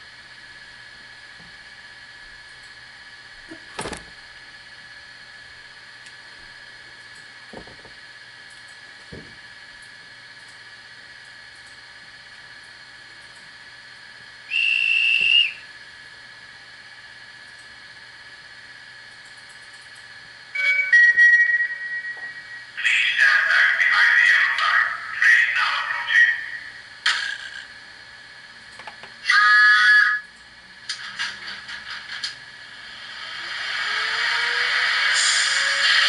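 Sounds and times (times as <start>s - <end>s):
electric locomotive hum: 0.0s - 36.0s.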